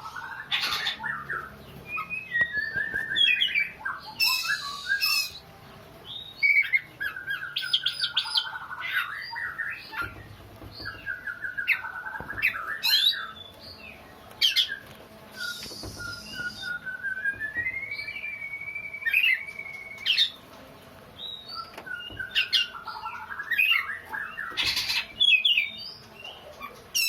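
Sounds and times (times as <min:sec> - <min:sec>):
magpie-robin singing: 0:00.0 - 0:20.4, 0:21.2 - 0:27.0.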